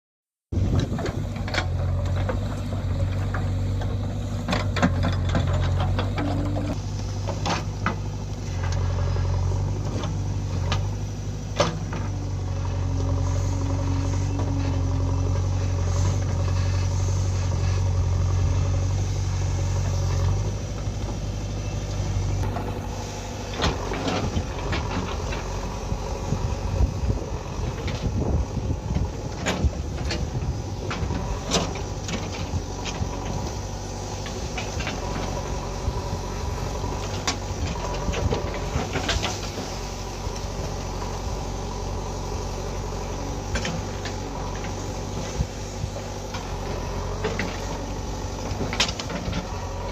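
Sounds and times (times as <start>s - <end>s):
diesel engine running: 0.5s - 49.9s.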